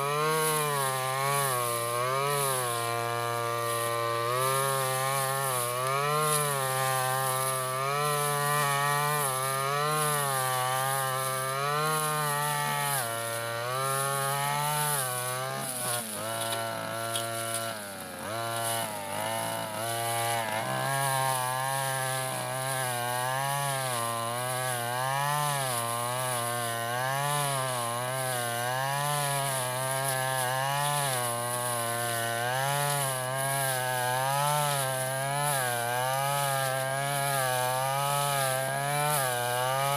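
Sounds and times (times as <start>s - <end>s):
brushcutter engine cutting grass: 0.0s - 39.9s.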